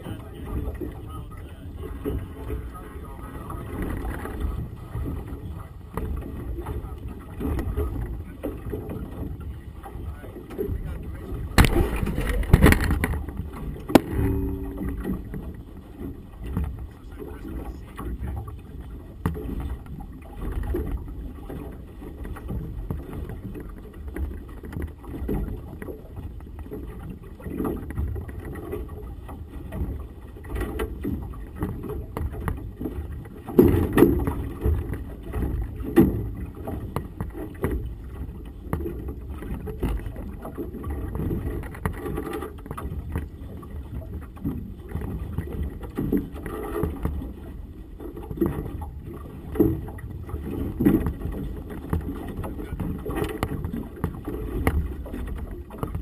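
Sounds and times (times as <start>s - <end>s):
outboard motor rumble: 0.0s - 56.0s
water sloshing: 0.0s - 56.0s.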